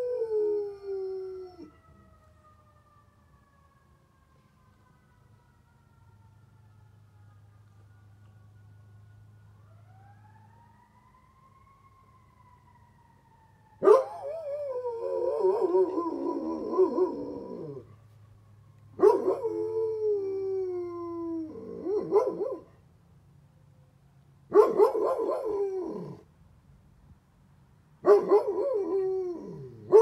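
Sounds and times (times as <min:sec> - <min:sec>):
faint fire truck siren: 0:00.0 - 0:30.0.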